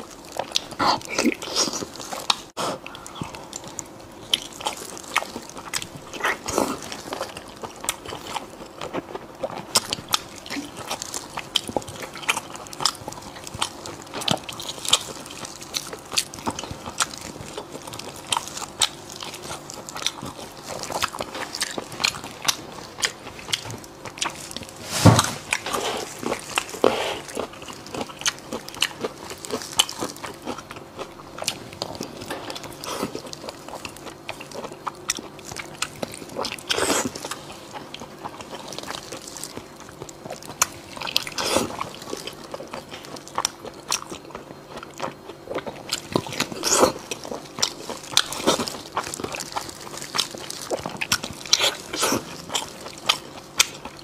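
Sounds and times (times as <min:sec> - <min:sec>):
wet biting and chewing: 0:00.0 - 0:54.0.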